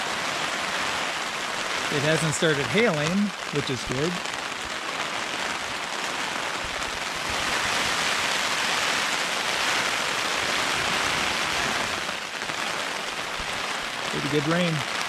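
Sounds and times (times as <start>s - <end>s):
rain shower hissing: 0.0s - 15.0s.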